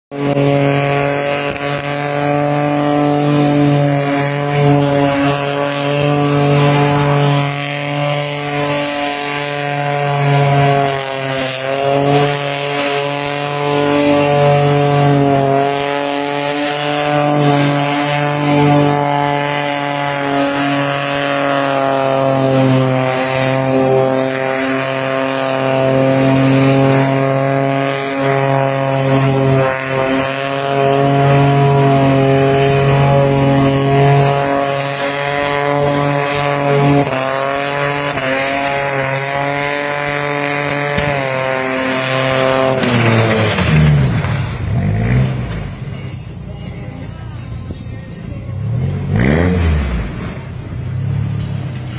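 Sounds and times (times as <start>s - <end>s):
car engine at high revs: 0.1s - 51.9s.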